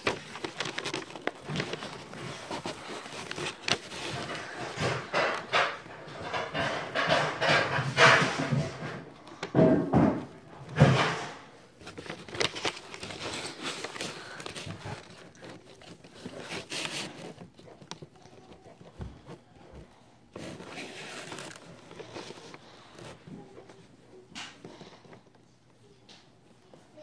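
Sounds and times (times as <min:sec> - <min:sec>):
paper rustling and crinkling: 0:00.0 - 0:09.5, 0:10.7 - 0:25.4
scrapes and small knocks: 0:00.0 - 0:25.4.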